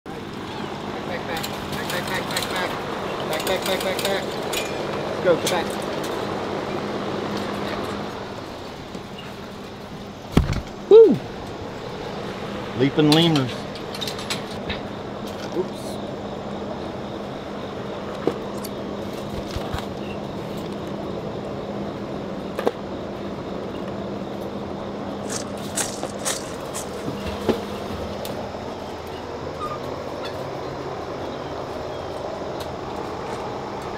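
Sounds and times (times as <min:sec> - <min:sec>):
steady mechanical hum: 0:00.1 - 0:33.9.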